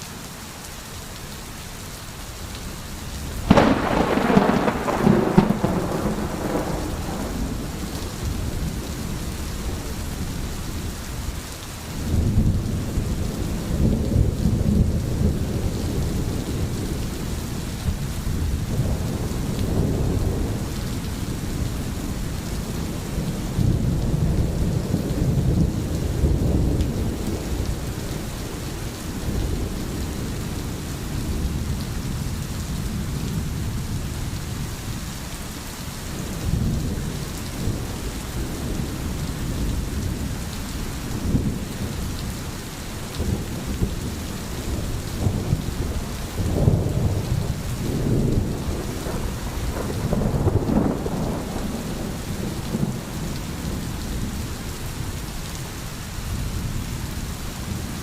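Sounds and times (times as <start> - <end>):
steady rain: 0.0 - 58.0
thunder rumbling: 3.4 - 11.3, 12.0 - 34.6, 36.2 - 54.7.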